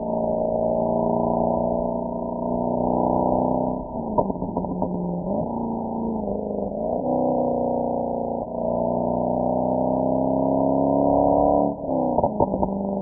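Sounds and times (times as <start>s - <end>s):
car engine cruising: 0.0s - 13.0s.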